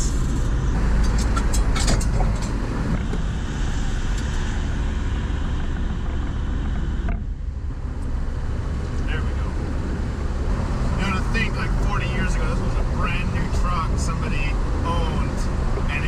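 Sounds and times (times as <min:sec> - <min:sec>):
engine and road rumble: 0:00.0 - 0:16.0.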